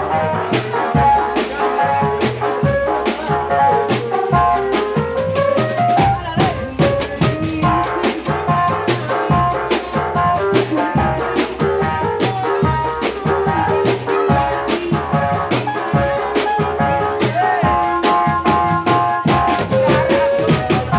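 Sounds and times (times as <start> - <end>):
driving drum beat: 0.0 - 20.9
live band melody: 0.0 - 20.9.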